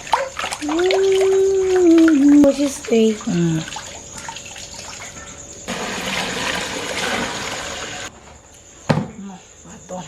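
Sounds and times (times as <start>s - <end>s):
water pouring: 0.0s - 8.1s
cricket trill: 0.0s - 10.0s.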